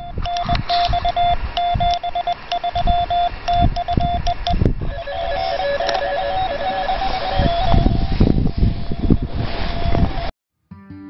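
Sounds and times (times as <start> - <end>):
morse code tone: 0.0 - 10.3.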